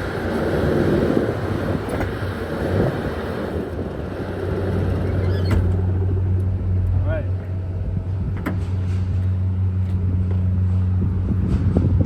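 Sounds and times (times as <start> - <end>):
diesel engine running: 0.0 - 11.8.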